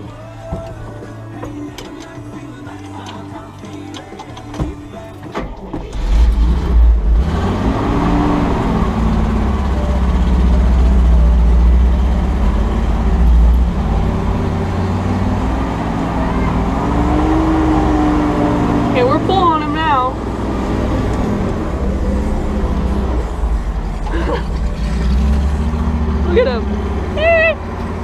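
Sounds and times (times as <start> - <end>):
truck engine working under load: 0.0 - 28.0.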